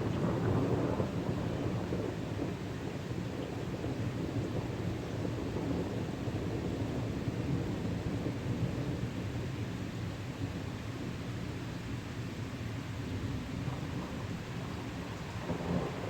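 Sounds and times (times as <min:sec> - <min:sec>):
low rumble of thunder: 0:00.0 - 0:11.2, 0:13.1 - 0:16.0
rain: 0:00.0 - 0:16.0.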